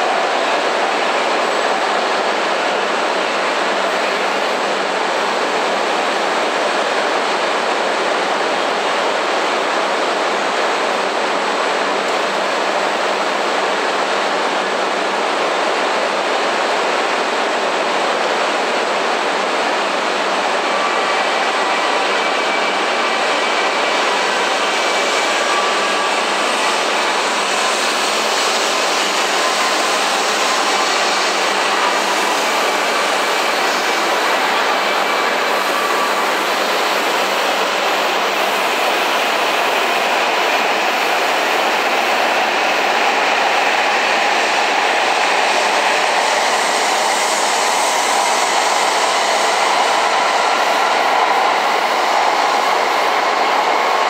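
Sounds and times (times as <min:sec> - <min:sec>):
train rushing past: 0:00.0 - 0:54.0.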